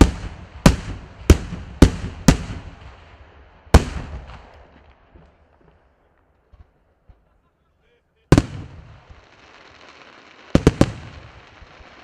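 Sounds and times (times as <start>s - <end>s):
fireworks bang echo: 0.0s - 7.3s, 8.3s - 12.0s.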